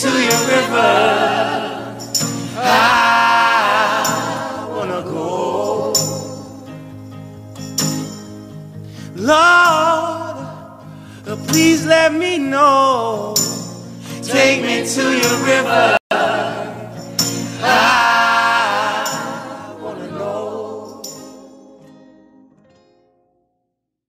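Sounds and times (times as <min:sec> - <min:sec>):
wordless sung vocals: 0:00.0 - 0:07.2, 0:09.0 - 0:22.2.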